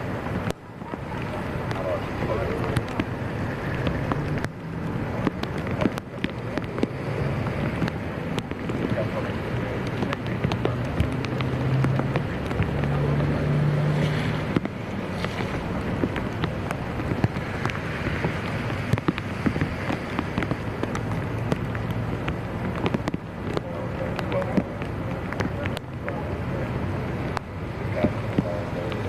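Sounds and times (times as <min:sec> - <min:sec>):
small clicks and pops: 0:00.3 - 0:29.0.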